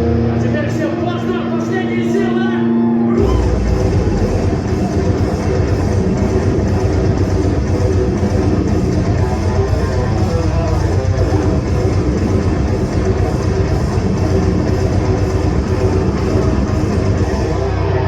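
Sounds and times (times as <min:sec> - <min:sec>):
electric guitar: 0:02.7 - 0:18.0
drum kit: 0:03.2 - 0:18.0
rock band playing live: 0:03.2 - 0:18.0.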